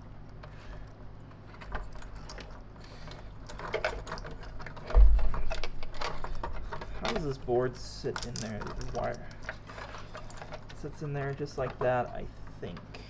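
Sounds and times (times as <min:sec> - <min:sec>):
wires and connectors clicking: 0:00.2 - 0:12.9.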